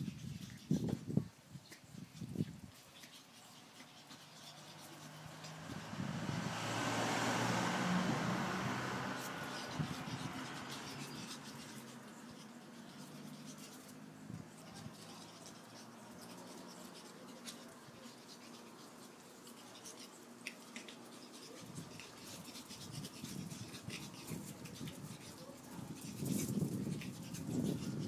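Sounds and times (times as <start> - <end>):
paws scratching on concrete: 0.0 - 28.0.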